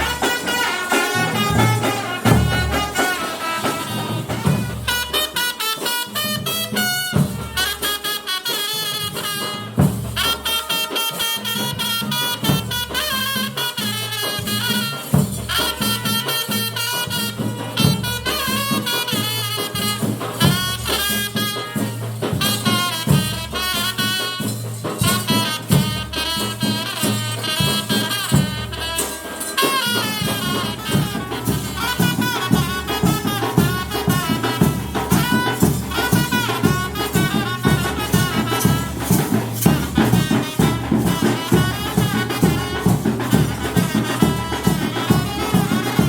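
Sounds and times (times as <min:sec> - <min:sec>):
drums beating: 0:00.0 - 0:46.0
reed wind instrument melody: 0:00.0 - 0:46.0.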